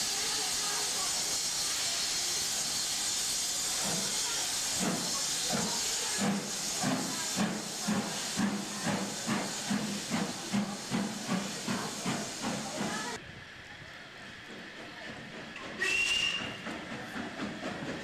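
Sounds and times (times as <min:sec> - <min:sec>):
steam hissing: 0:00.0 - 0:13.2, 0:14.2 - 0:18.0
steam locomotive exhaust beats: 0:00.0 - 0:18.0.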